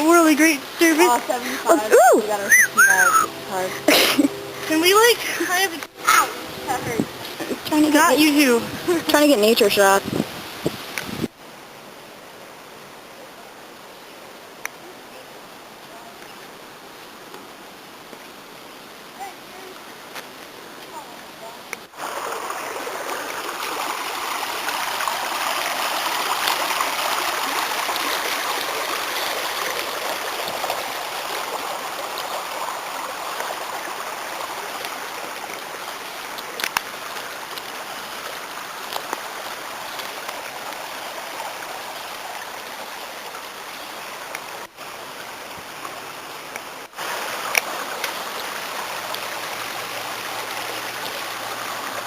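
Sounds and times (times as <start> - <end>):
stream water running: 0.0 - 52.0.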